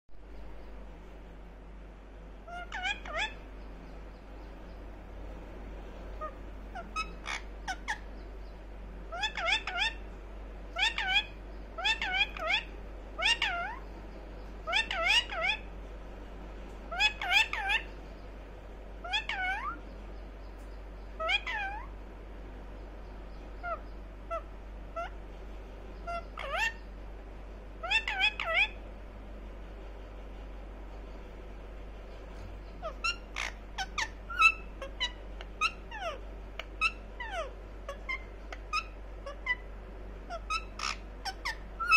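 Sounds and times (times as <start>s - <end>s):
parakeet chattering calls: 2.4s - 5.4s, 6.0s - 15.8s, 16.8s - 25.3s, 25.9s - 28.9s, 32.1s - 41.9s.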